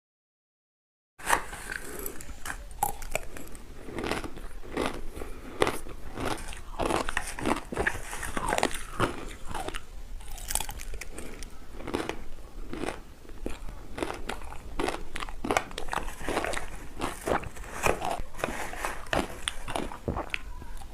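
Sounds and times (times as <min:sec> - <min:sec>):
person crunching ice cubes: 0:01.2 - 0:20.9.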